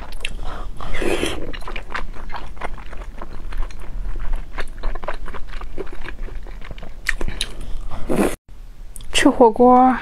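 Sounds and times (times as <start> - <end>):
person chewing: 0.0 - 8.4.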